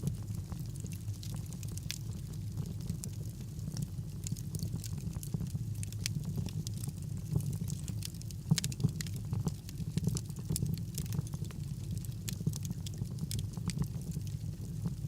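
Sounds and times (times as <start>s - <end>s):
fire crackling and popping: 0.0s - 15.0s
wood fire flame rumble: 0.0s - 15.0s.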